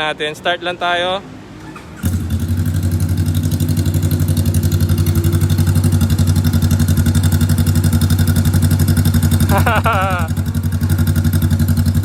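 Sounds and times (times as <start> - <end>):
motorcycle engine starting and idling: 1.6 - 12.0.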